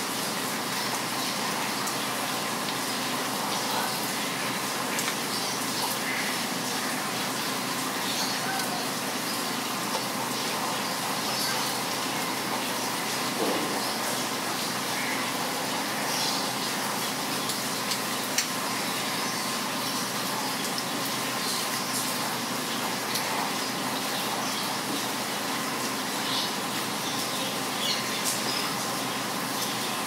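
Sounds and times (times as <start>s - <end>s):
rain on wet pavement: 0.0s - 30.0s.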